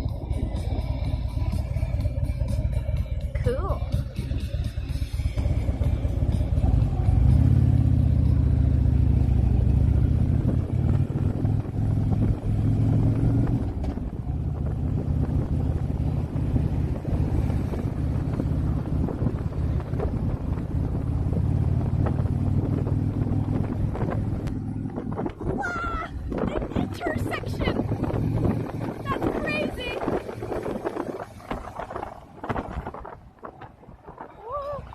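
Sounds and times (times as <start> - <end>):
motorcycle engine rumbling: 0.0 - 34.9.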